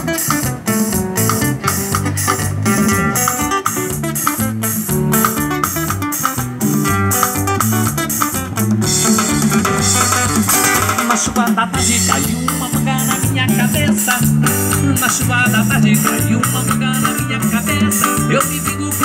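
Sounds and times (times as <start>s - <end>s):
drums and cymbals: 0.0s - 19.0s
electric bass: 0.0s - 19.0s
strummed acoustic guitar: 0.0s - 19.0s.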